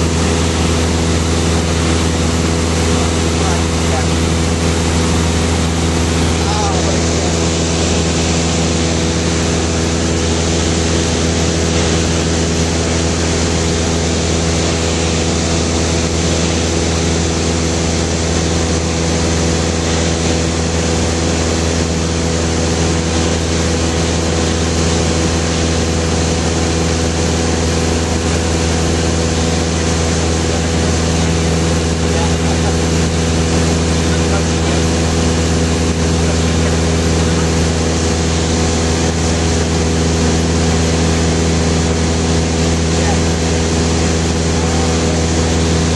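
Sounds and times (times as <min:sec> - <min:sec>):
propeller aircraft cabin drone: 0:00.0 - 0:45.9.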